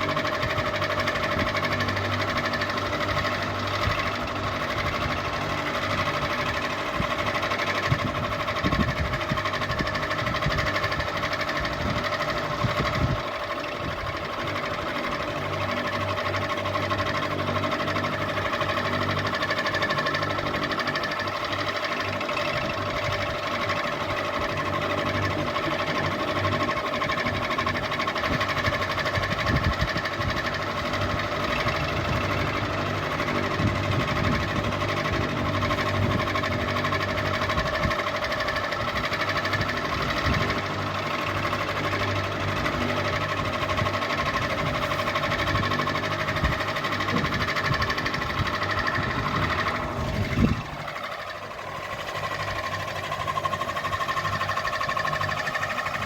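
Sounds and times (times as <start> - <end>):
ceiling fan motor hum: 0.0 - 56.0
fan knocking and rattling: 0.0 - 56.0.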